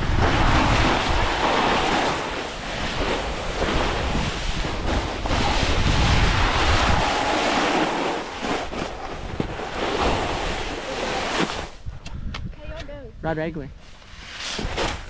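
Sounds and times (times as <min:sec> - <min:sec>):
skis scraping on snow: 0:00.0 - 0:11.8, 0:13.8 - 0:15.0
wind buffeting microphone: 0:00.0 - 0:13.2.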